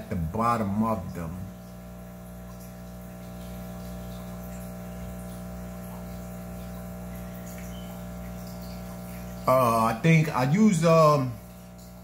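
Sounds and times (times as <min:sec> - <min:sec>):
low electric hum: 0:00.0 - 0:12.0
moving water: 0:00.0 - 0:12.0.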